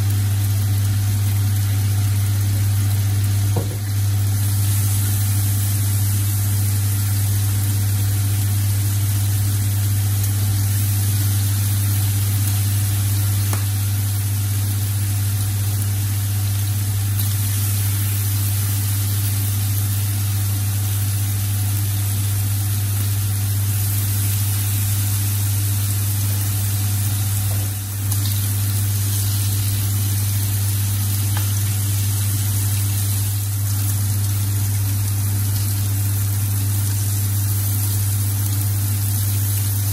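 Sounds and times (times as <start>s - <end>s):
meat sizzling on a griddle: 0.0s - 39.9s.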